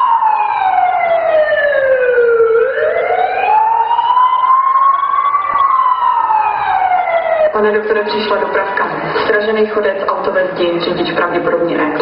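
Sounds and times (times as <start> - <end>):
recorded siren over loudspeakers: 0.0 - 12.0.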